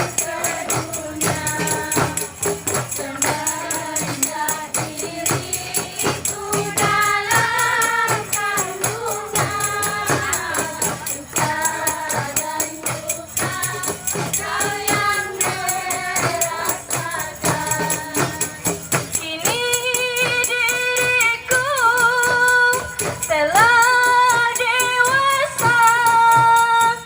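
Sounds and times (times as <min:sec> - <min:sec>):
frame drums beating: 0:00.0 - 0:27.0
voices singing in unison: 0:00.0 - 0:27.0.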